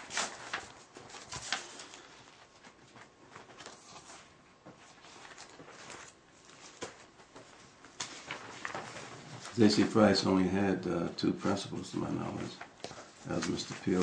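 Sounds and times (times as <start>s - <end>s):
photographs rustling and tapping: 0.0s - 10.1s, 11.6s - 14.0s.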